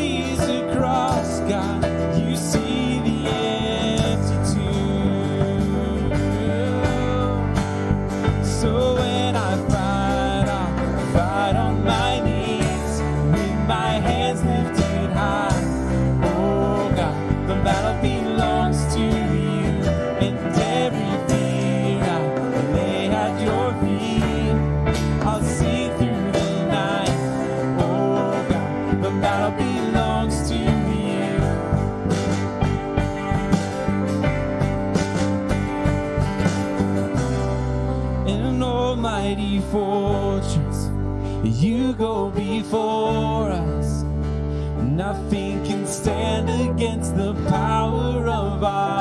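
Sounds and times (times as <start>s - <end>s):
person singing: 0.0s - 32.4s, 38.2s - 49.0s
worship band music: 0.0s - 49.0s.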